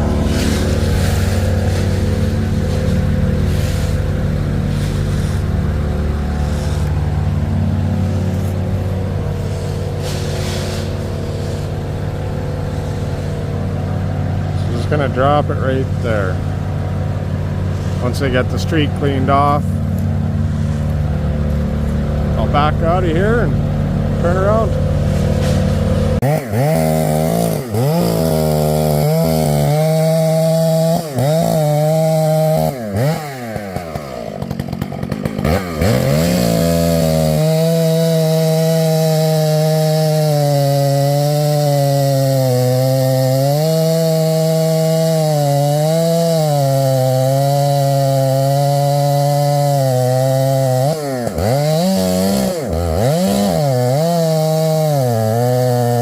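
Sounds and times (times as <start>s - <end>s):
chainsaw revving and cutting wood: 0.0s - 56.0s.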